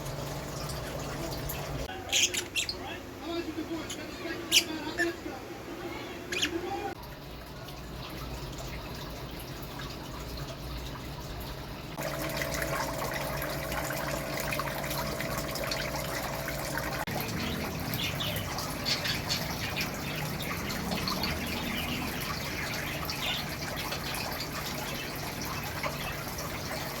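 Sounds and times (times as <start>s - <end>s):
water running and trickling: 0.0s - 1.9s, 6.4s - 27.0s
light ticks and splashes: 0.0s - 2.7s, 6.4s - 27.0s
faint steady hum: 0.0s - 27.0s.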